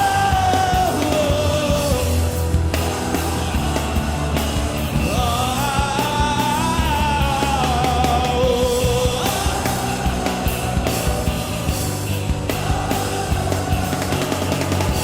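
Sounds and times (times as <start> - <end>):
band playing rock music: 0.0 - 15.0
drums: 0.0 - 15.0
lead melody: 0.0 - 15.0.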